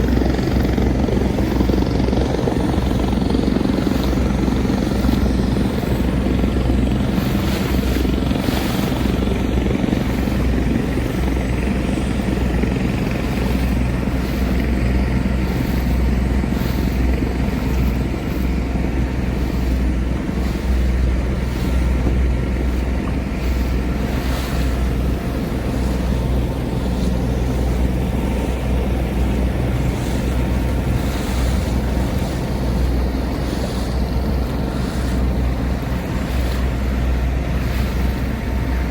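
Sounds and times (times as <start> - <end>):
boat engine droning: 0.0 - 38.9
water: 0.0 - 38.9
wind: 0.0 - 38.9.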